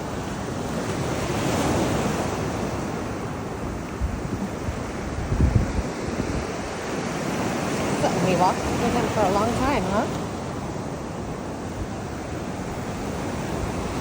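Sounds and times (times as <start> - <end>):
ocean surf washing up beach: 0.0 - 14.0
wind buffeting microphone: 0.0 - 14.0.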